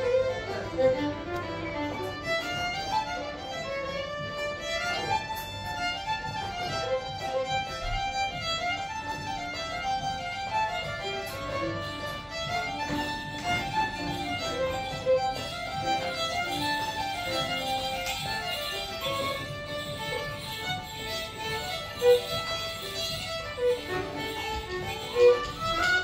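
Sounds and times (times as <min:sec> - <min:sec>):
fiddles playing folk tune: 0:00.0 - 0:26.0.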